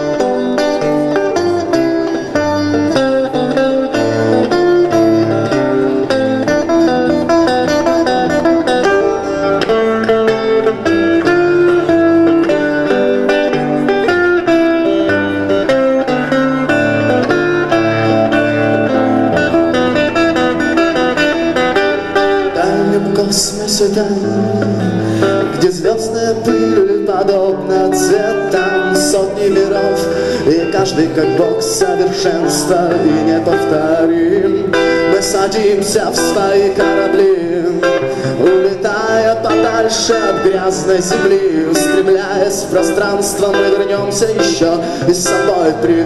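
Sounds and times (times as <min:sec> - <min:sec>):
bass line: 0:00.0 - 0:46.0
electric guitar melody: 0:00.0 - 0:46.0.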